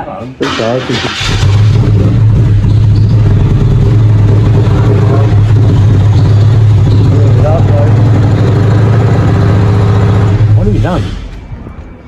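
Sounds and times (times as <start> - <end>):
car engine starting and running: 0.4 - 11.6.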